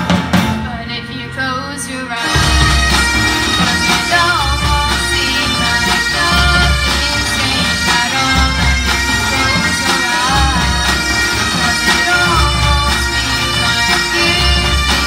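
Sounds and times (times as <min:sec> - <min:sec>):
snare and bass drums: 0:00.0 - 0:00.7, 0:02.3 - 0:15.0
bagpipes playing melody: 0:02.2 - 0:15.0.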